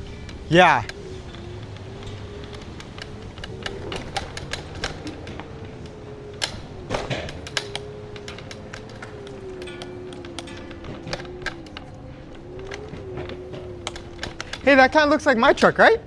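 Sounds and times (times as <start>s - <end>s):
electric scooter motor whine: 0.0s - 16.0s
scooter rattling over bumpy pavement: 0.0s - 16.0s.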